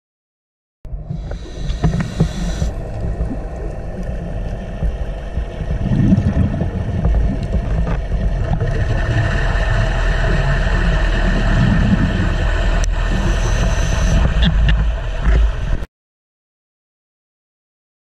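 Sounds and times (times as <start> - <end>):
faint hum: 0.9 - 15.8
underwater low rumble: 0.9 - 15.9.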